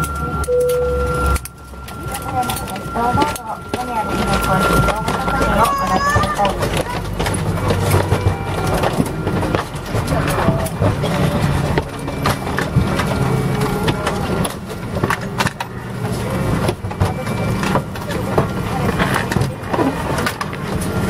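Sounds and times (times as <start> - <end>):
airliner cabin low rumble: 0.0 - 21.0
indistinct passenger voices: 0.0 - 21.0.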